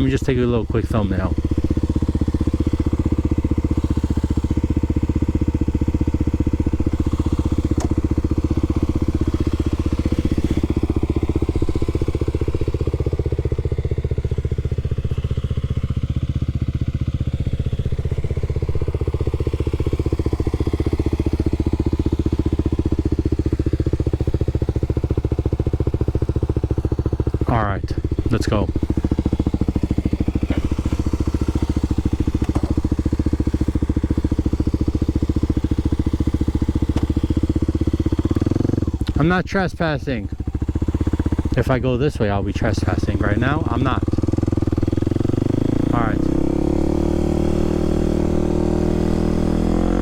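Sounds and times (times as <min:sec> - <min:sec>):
motorcycle engine idling: 0:00.0 - 0:50.0.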